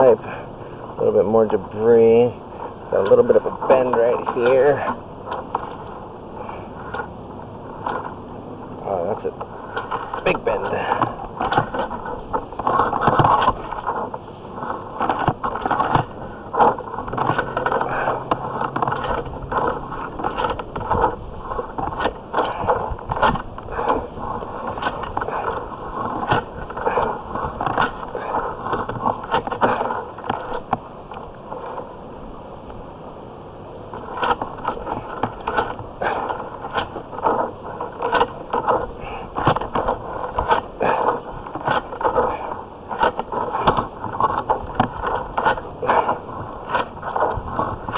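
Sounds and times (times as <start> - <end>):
camera cable scraping inside pipe: 0.0 - 32.2, 33.8 - 47.9.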